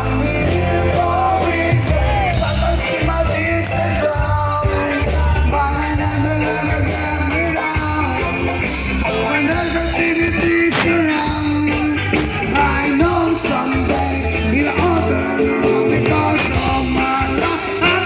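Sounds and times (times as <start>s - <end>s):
rock music with singing: 0.0s - 18.0s.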